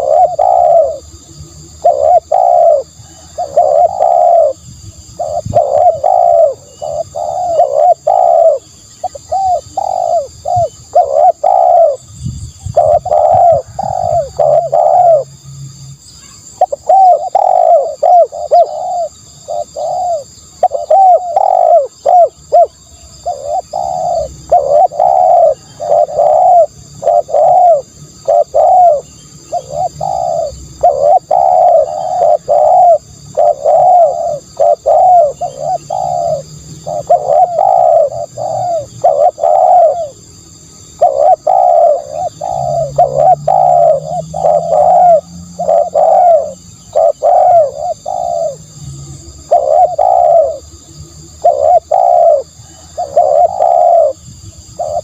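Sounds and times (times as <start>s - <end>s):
dove cooing: 0.0s - 15.4s, 16.2s - 55.0s.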